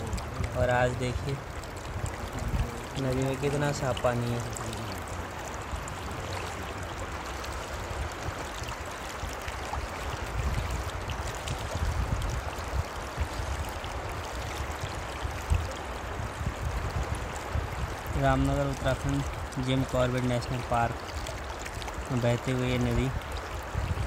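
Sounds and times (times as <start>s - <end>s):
river babbling over stones: 0.0s - 24.0s.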